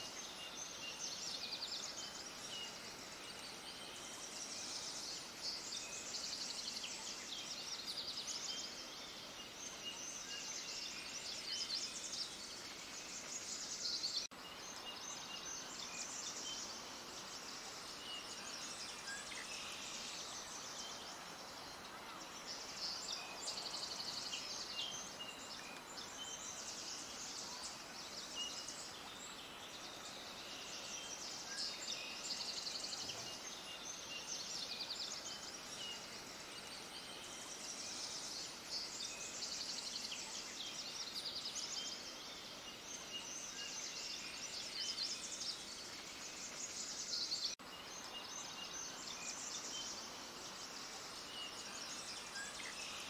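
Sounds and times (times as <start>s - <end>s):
faint hiss: 0.0s - 53.0s
small birds chirping: 0.0s - 53.0s.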